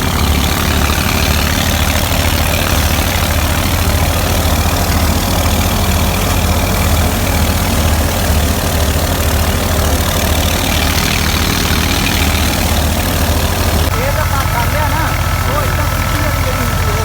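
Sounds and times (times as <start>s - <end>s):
thresher engine running: 0.0s - 17.0s.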